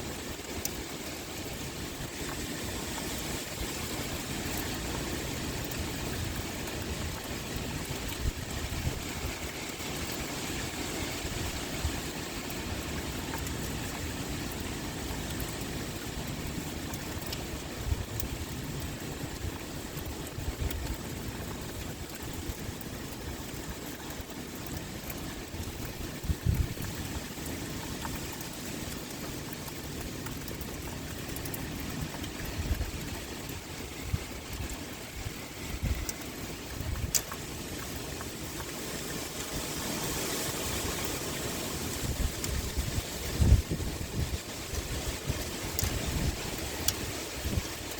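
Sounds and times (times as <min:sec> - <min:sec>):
rain pouring: 0:00.0 - 0:47.9
sharp drip clicks: 0:00.0 - 0:47.9.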